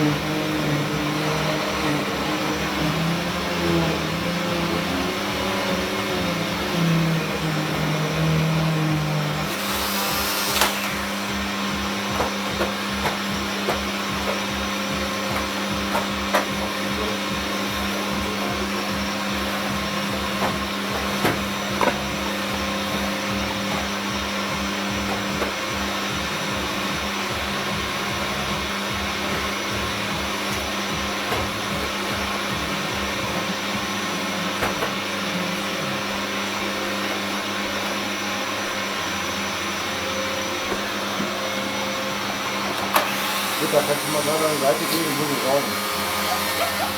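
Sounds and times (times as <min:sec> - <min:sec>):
vacuum cleaner humming: 0:00.0 - 0:46.9.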